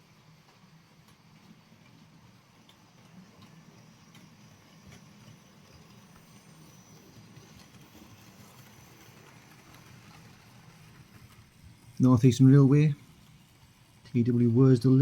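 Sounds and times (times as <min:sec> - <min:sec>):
model train motor hum: 0:00.0 - 0:15.0.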